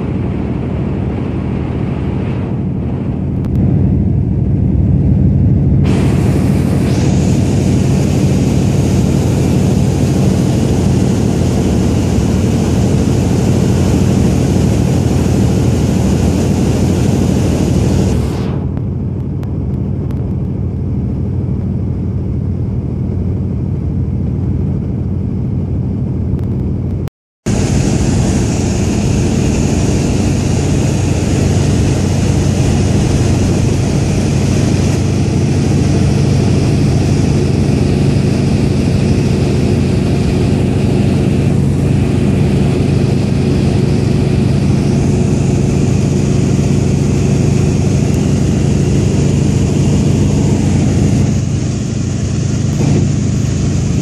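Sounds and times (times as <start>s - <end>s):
propeller plane engine droning: 0.0s - 54.0s.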